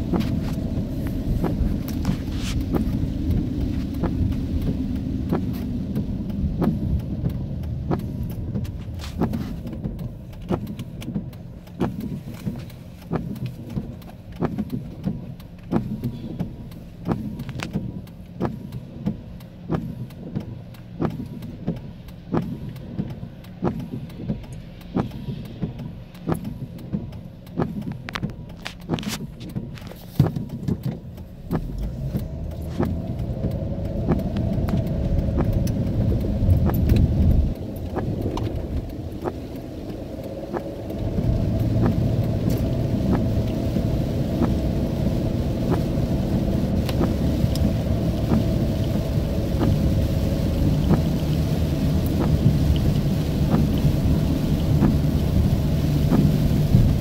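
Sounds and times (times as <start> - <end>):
car rumbling: 0.0 - 57.0
raindrops hitting windshield and roof: 0.0 - 57.0.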